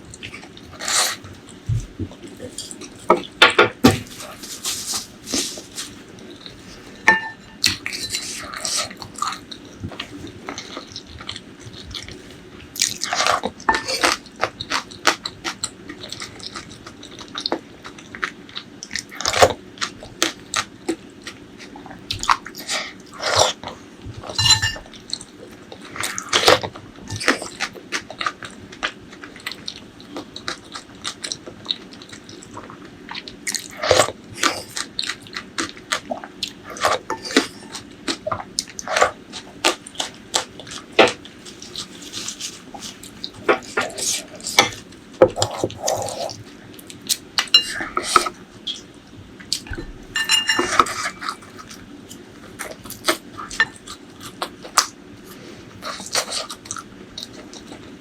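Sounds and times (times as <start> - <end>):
chewing and crunching food: 0.0 - 3.4, 4.0 - 58.0.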